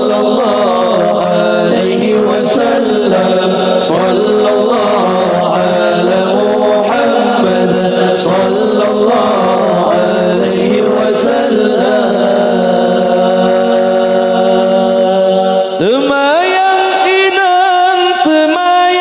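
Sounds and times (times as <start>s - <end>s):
men chanting a cappella: 0.0s - 19.0s.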